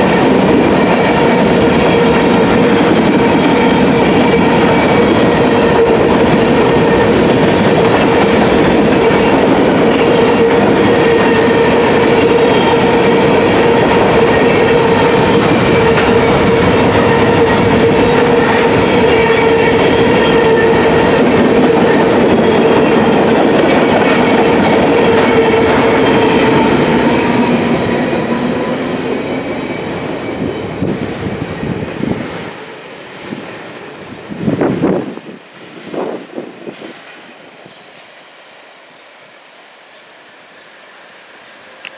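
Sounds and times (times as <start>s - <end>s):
train wheels clacking on rails: 0.0s - 34.0s.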